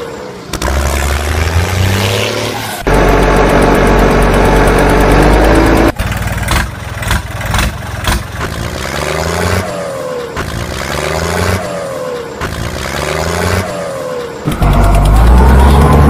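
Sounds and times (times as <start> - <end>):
tractor engine revving: 0.5 - 16.0.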